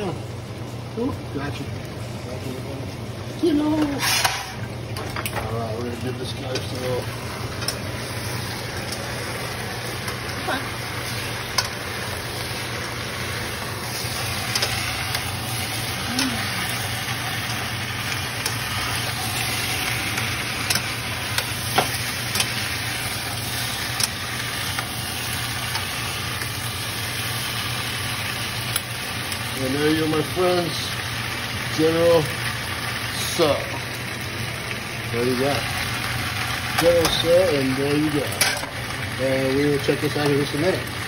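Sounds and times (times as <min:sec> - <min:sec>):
chicken sizzling in a skillet: 0:05.4 - 0:41.0.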